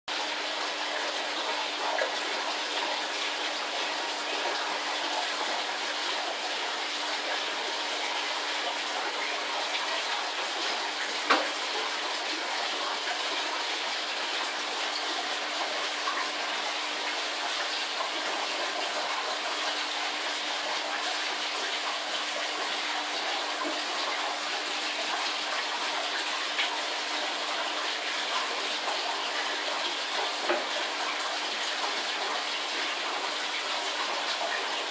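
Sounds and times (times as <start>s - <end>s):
aquarium water rushing: 0.1s - 34.9s.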